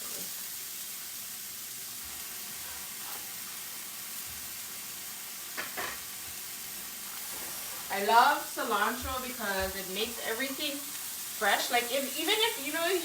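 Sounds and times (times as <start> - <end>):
fish sizzling in a pan: 0.0 - 13.0.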